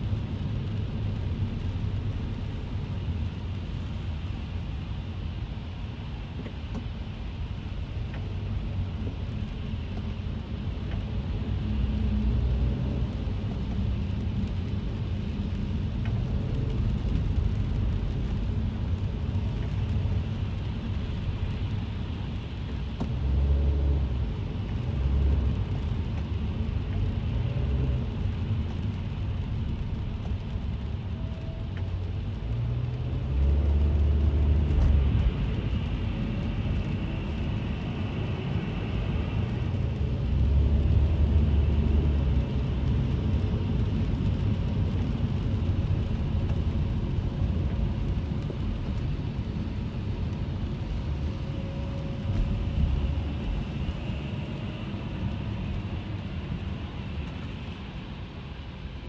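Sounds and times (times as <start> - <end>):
engine and tyres on wet road: 0.0 - 59.0
rain on car: 0.0 - 59.0.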